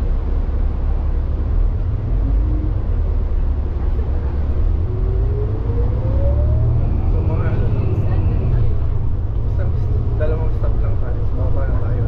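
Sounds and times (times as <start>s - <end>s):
bus engine low drone: 0.0s - 12.0s.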